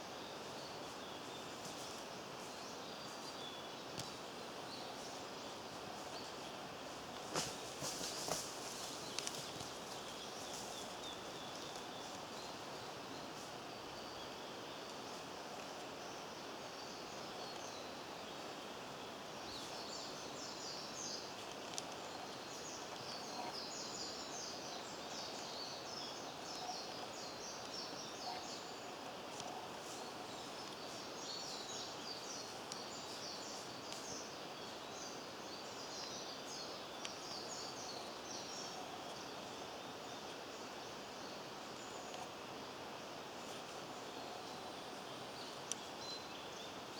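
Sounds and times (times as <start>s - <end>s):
outdoor ambient noise: 0.0s - 46.9s
small birds chirping: 0.0s - 46.9s.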